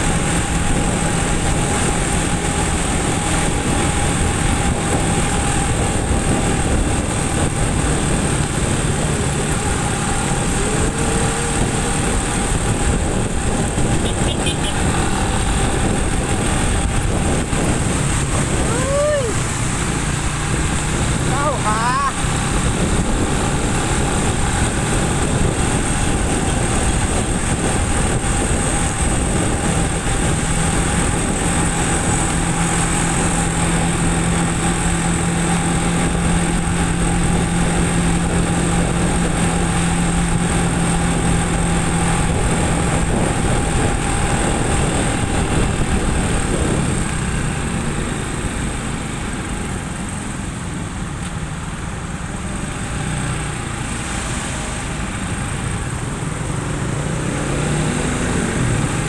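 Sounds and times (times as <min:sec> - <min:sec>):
wind noise on microphone: 0:00.0 - 0:51.8
motorcycle engine running: 0:00.0 - 0:59.0.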